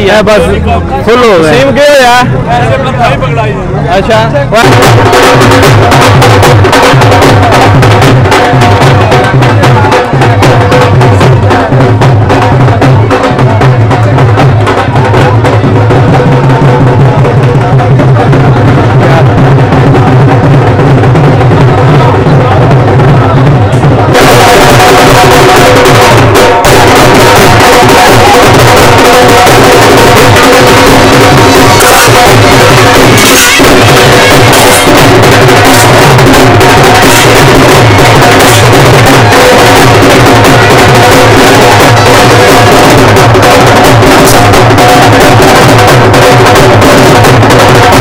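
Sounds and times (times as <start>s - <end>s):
loud drumming: 0.0s - 48.0s
sustained band tones: 4.5s - 48.0s
bass drum beaten with stick: 4.6s - 48.0s.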